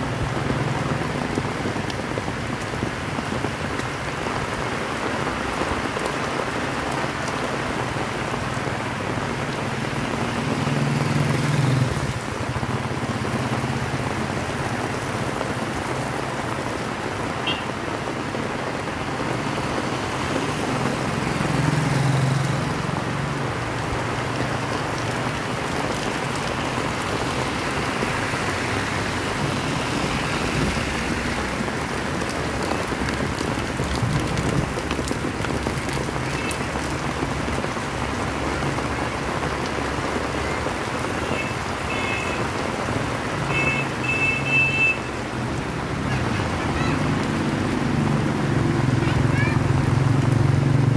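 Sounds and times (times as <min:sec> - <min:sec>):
heavy rain falling: 0:00.0 - 0:50.9
passing motor vehicles hum: 0:00.0 - 0:50.9.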